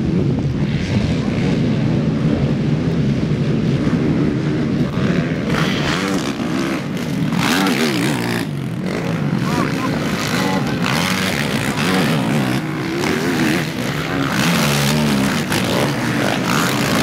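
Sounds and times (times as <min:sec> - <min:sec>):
quad bike engines revving: 0:00.0 - 0:17.0.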